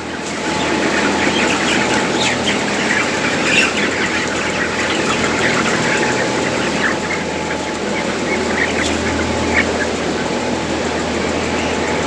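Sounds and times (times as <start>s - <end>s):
chickens clucking and calling: 0.0s - 12.0s
steady mechanical hum: 0.0s - 12.0s.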